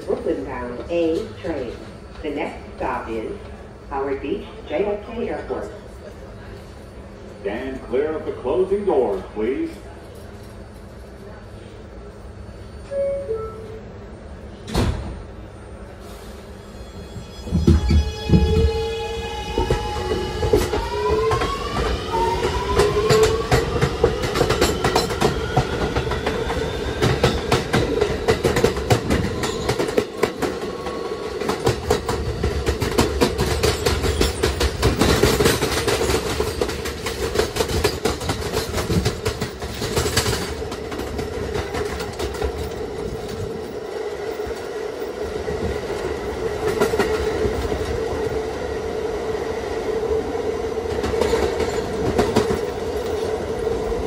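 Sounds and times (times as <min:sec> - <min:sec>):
train running drone: 0:00.0 - 0:54.0.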